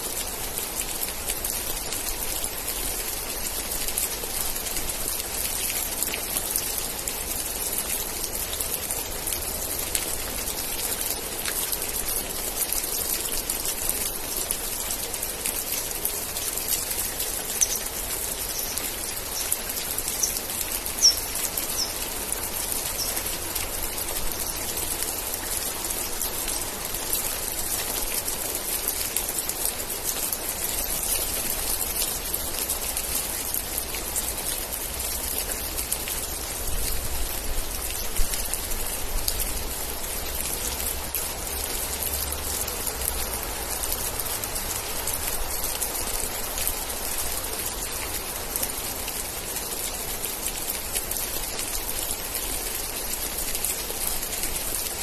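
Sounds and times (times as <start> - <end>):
dense rain pattering: 0.0 - 55.0.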